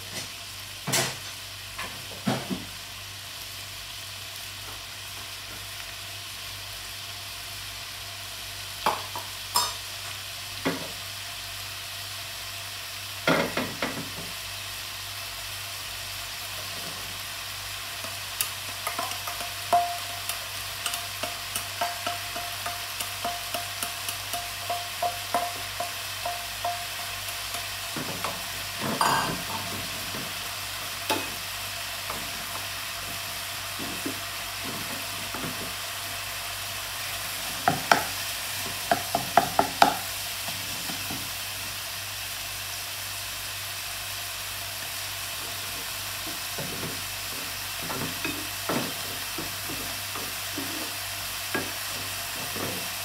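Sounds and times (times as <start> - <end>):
meat sizzling in a wok: 0.0 - 53.0.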